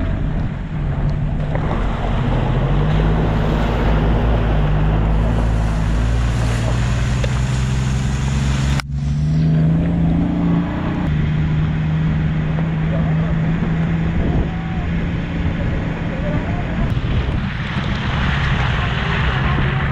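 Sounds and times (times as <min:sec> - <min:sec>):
broad rushing noise: 0:00.0 - 0:19.9
vehicle engine running: 0:00.0 - 0:19.9.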